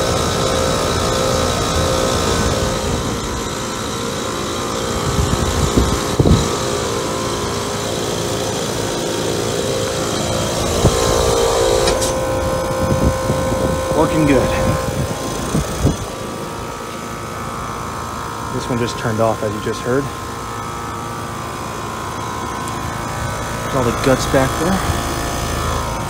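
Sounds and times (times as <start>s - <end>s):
air conditioner unit humming: 0.0s - 26.0s.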